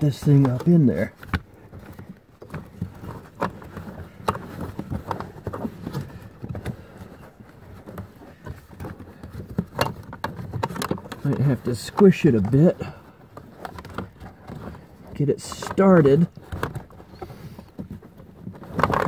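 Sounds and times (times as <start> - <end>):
filter scraping and rustling: 0.0 - 19.0
sharp plastic clicks and knocks: 0.0 - 19.0.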